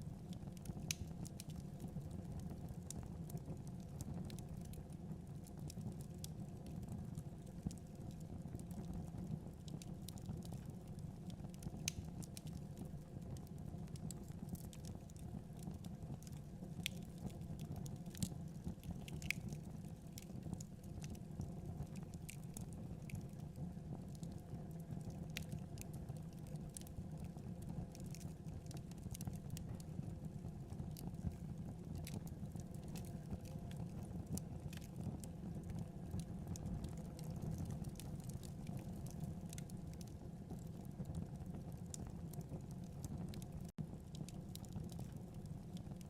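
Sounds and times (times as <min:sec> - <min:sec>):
fire burning in fireplace: 0:00.0 - 0:46.0
fire crackling and popping: 0:00.0 - 0:46.0.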